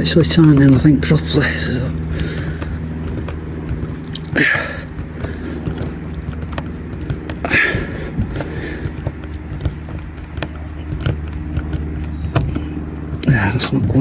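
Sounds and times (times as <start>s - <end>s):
low mechanical hum: 0.0s - 14.0s
sharp clicks and knocks: 0.0s - 14.0s.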